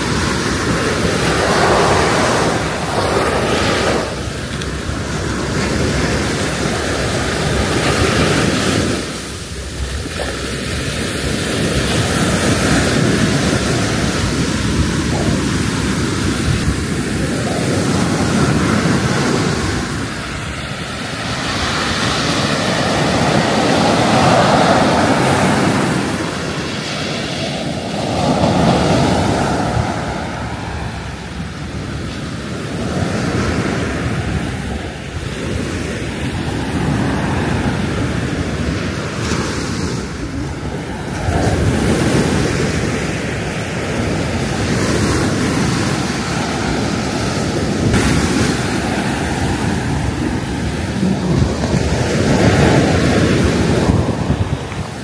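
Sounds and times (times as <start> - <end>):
surf breaking on a beach: 0.0 - 55.0.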